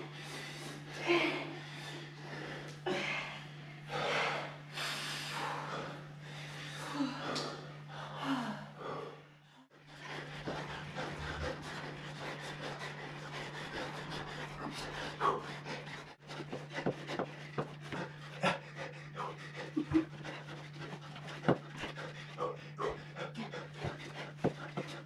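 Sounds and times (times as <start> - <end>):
people panting heavily: 0.0 - 25.0
steady low hum: 0.0 - 25.0.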